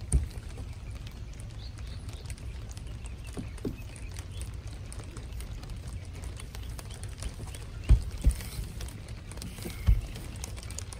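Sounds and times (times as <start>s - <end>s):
wind rumbling on microphone: 0.0s - 10.9s.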